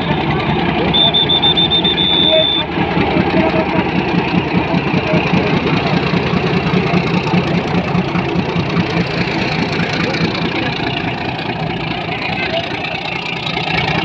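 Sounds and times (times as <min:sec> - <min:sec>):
diesel locomotive engine throbbing: 0:00.0 - 0:14.0.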